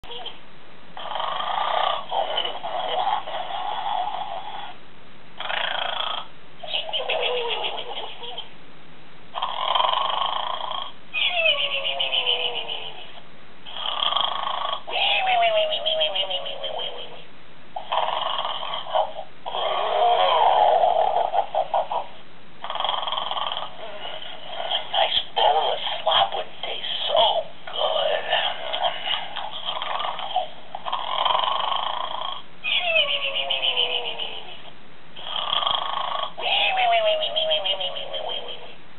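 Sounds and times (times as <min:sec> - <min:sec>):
toy cartoon snore: 0:01.0 - 0:04.8, 0:05.4 - 0:08.4, 0:09.4 - 0:13.0, 0:13.7 - 0:17.2, 0:17.8 - 0:38.8.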